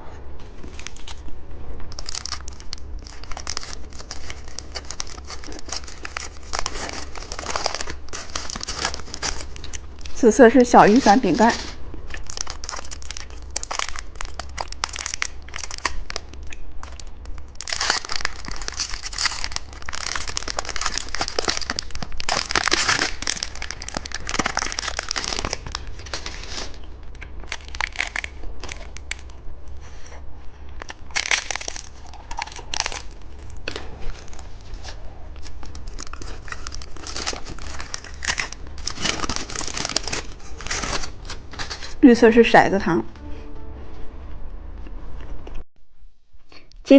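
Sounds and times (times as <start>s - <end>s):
plastic wrappers crinkling: 1.9s - 29.4s, 30.8s - 42.6s.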